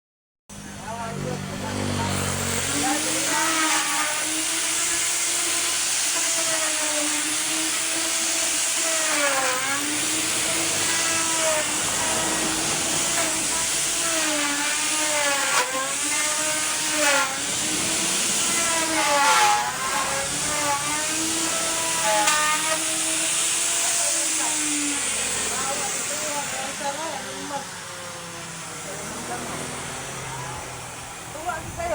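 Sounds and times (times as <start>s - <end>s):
power tool cutting wood: 0.5s - 31.9s.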